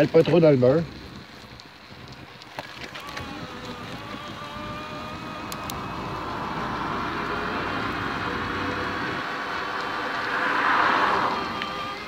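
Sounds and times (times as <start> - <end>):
electric bicycle motor whining: 0.0 - 12.0
wind: 0.0 - 12.0.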